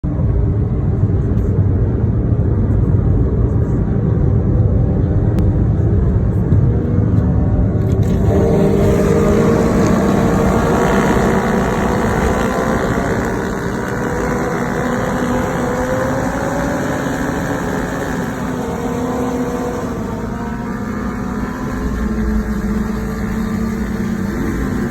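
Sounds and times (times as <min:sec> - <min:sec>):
group of motorcycles accelerating: 0:03.0 - 0:24.9.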